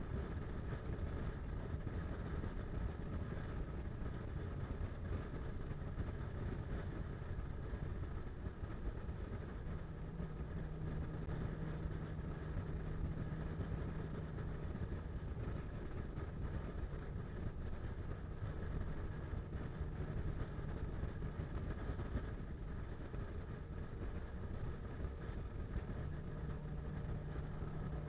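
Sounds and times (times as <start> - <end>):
low steady hum: 0.0 - 28.0
car road noise from inside: 0.2 - 28.0.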